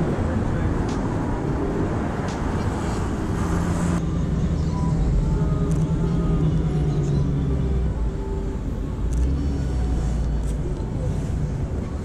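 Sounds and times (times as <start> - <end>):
traffic rush: 0.0 - 12.0.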